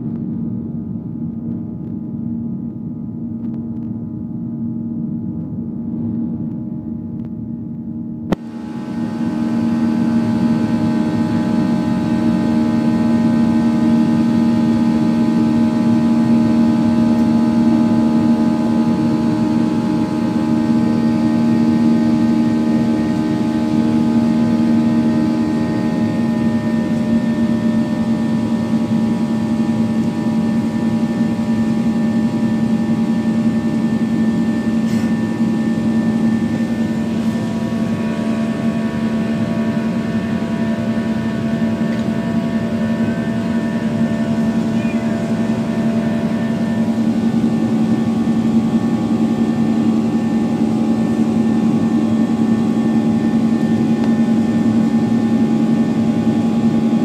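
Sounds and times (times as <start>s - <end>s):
jet engines droning in cabin: 0.0s - 57.0s.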